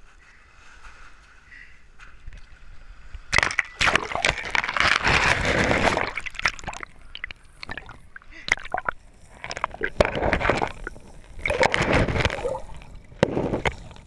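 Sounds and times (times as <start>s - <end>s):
water splashing and sloshing: 2.3s - 14.0s.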